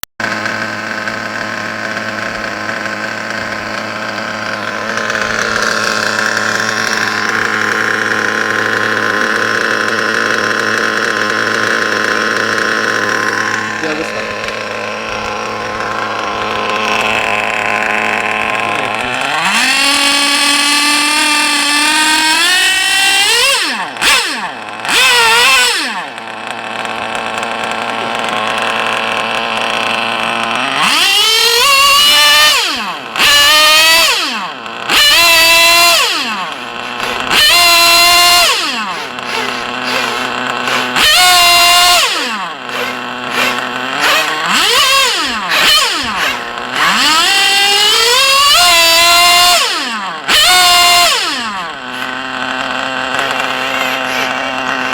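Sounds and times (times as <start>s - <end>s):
engine revving: 0.2s - 54.9s.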